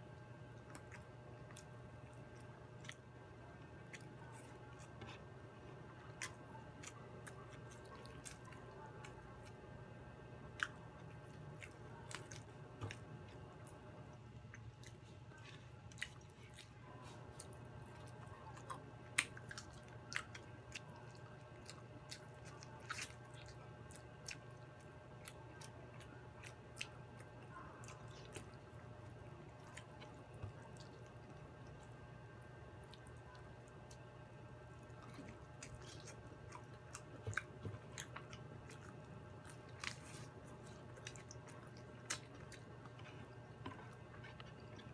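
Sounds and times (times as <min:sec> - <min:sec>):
chewing: 0:00.1 - 0:09.7, 0:10.4 - 0:44.9.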